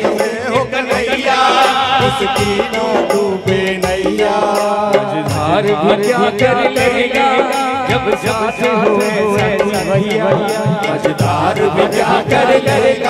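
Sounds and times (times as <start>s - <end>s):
men singing devotional song: 0.0s - 13.0s
steady percussion beat: 0.0s - 13.0s.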